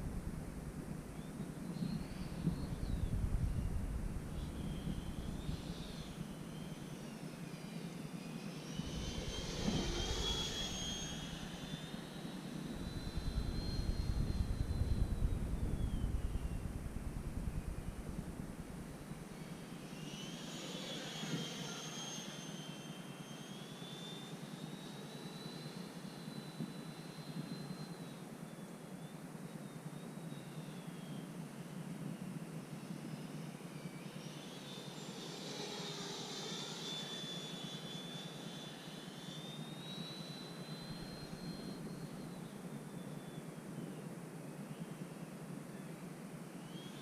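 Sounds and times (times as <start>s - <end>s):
electric ducted fan whine: 0.0s - 47.0s.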